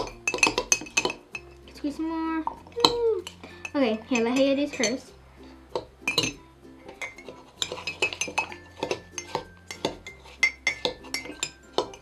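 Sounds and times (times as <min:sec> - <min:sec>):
metal spoons clinking against mugs: 0:00.0 - 0:12.0.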